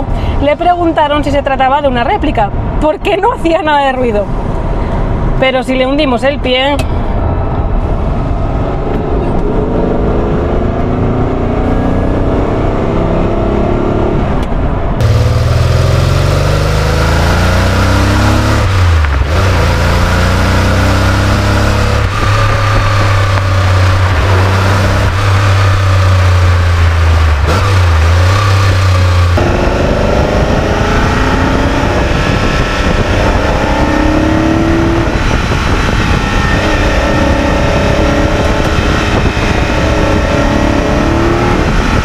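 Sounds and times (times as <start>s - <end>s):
car engine revving at full throttle: 6.8s - 42.0s.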